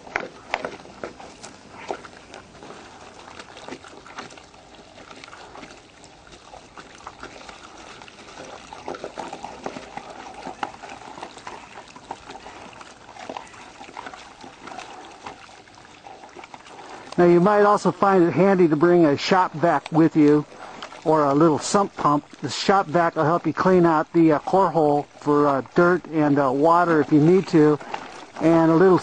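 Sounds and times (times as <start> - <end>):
water trickling and gurgling: 0.0 - 29.0.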